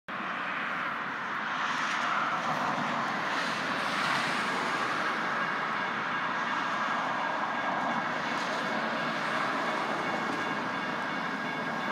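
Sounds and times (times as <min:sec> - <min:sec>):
road traffic rushing: 0:00.1 - 0:11.9.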